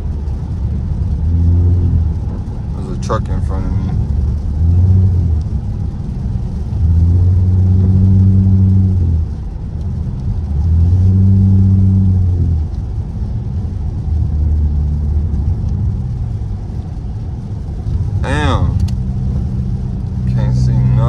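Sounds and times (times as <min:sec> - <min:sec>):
car exhaust droning: 0:00.0 - 0:21.0.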